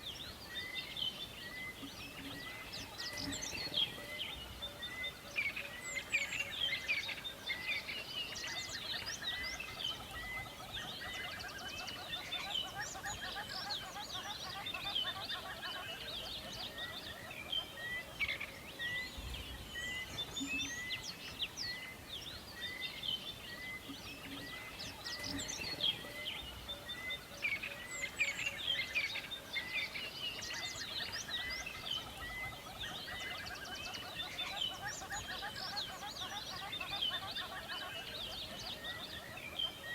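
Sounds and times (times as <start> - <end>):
birds chorus of chirps: 0.0 - 39.9.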